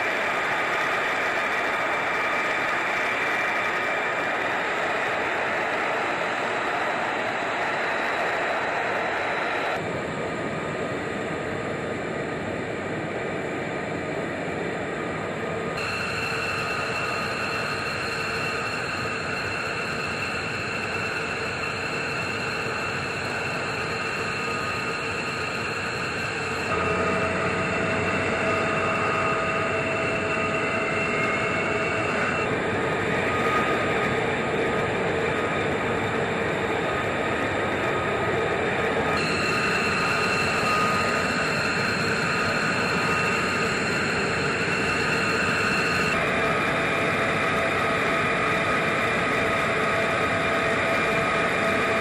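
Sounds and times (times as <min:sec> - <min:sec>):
jet engines idling: 0:00.0 - 0:52.0.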